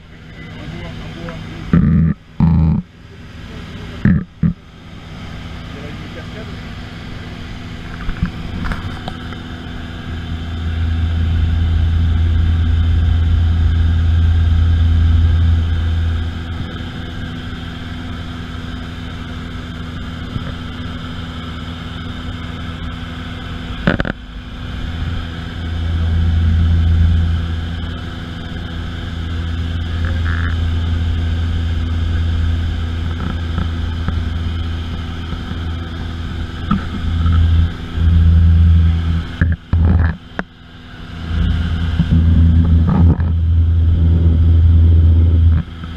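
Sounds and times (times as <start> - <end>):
airplane engine drone: 0.0 - 45.9.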